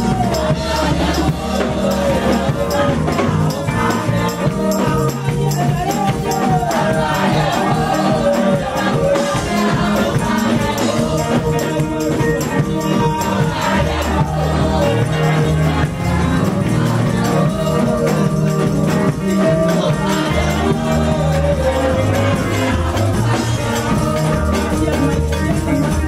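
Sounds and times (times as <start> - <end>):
bass line: 0.0 - 26.0
gospel group singing: 0.0 - 26.0
shaken hand percussion: 0.0 - 26.0.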